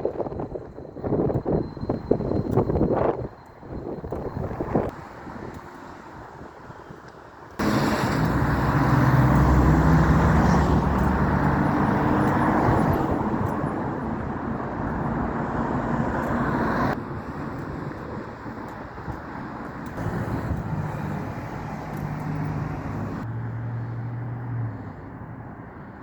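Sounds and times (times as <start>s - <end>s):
vehicle engine and tyre noise: 0.0s - 26.0s.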